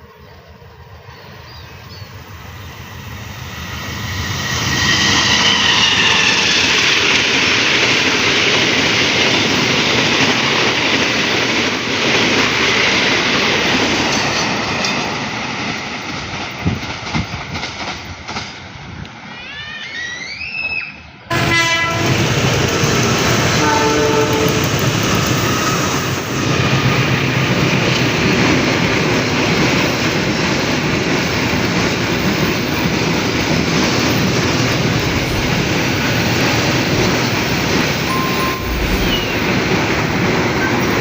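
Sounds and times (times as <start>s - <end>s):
train rumble passing: 0.0s - 19.3s, 21.3s - 41.0s
train wheels clacking on rail joints: 4.2s - 18.6s, 21.6s - 41.0s.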